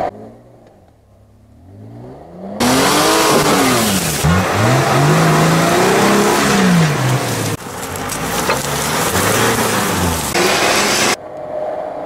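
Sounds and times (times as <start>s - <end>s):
suv engine revving: 1.5s - 11.2s.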